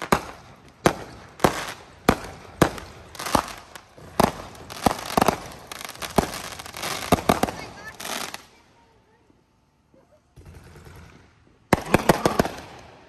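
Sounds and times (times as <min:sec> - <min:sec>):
fireworks bangs: 0:00.0 - 0:08.6, 0:10.3 - 0:13.0.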